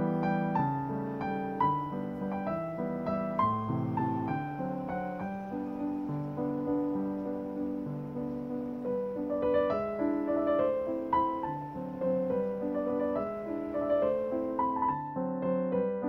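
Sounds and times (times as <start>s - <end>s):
piano waltz: 0.0s - 16.0s.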